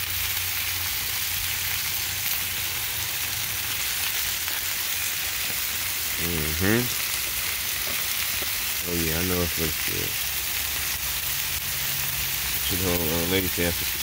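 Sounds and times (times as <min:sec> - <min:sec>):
meat sizzling on a grill: 0:00.0 - 0:14.0.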